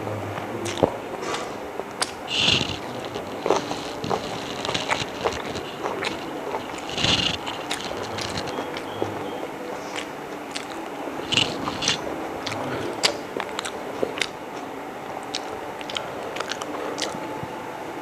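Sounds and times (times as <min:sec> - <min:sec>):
person chewing food: 0:00.4 - 0:17.6.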